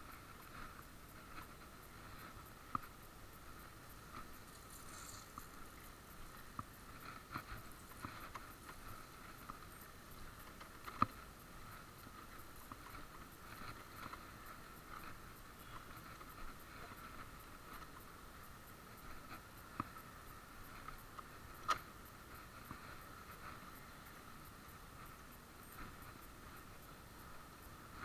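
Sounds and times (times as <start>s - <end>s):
faint steady hiss: 0.0s - 28.0s
scooter rattling over gravel: 3.0s - 28.0s.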